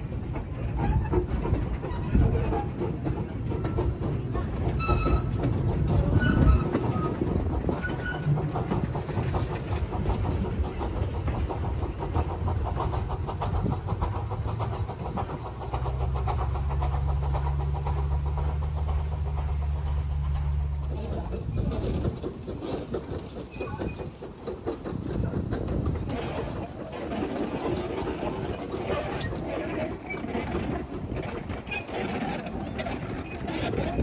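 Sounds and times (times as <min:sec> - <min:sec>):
train wheels clicking on track: 0:00.0 - 0:34.0.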